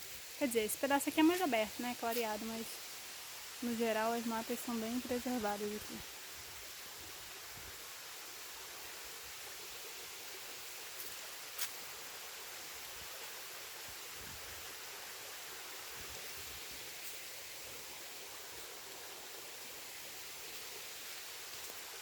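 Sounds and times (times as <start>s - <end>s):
forest background hiss: 0.0s - 22.0s.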